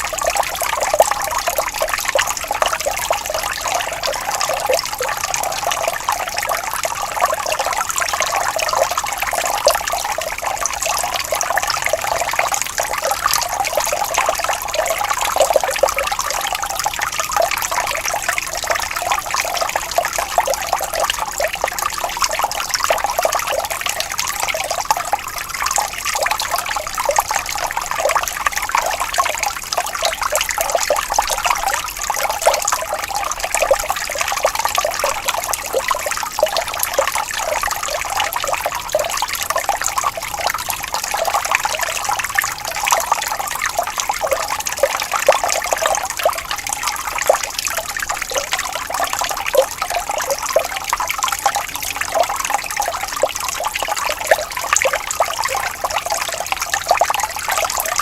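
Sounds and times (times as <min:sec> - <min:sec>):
water trickling and babbling: 0:00.0 - 0:58.0.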